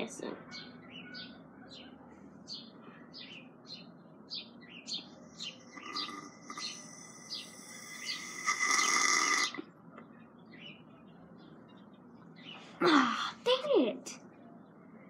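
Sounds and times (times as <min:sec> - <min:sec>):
bird chirping: 0:00.3 - 0:12.8.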